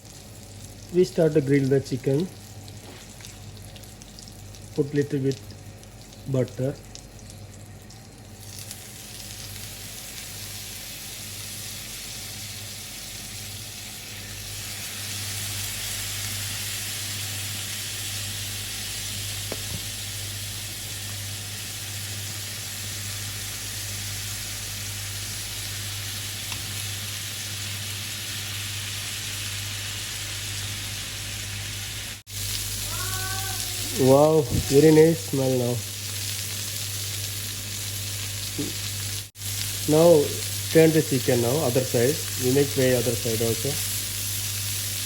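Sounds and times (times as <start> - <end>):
chicken sizzling in a pan: 8.2 - 45.0.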